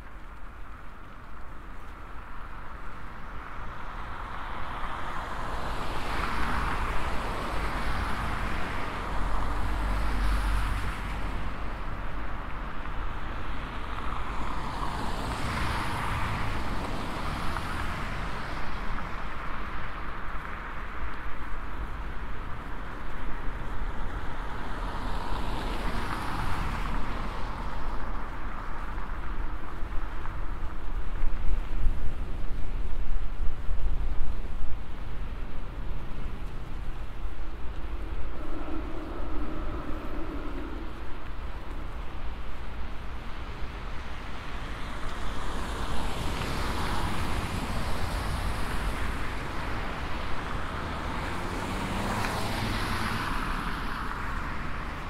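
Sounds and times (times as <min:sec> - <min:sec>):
cars passing: 0:00.0 - 0:33.0, 0:33.6 - 0:55.0
steady low traffic rumble: 0:00.0 - 0:55.0.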